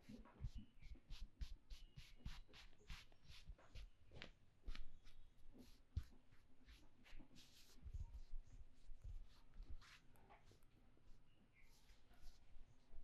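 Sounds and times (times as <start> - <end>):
fingers scratching scalp and hair: 0.0 - 10.6.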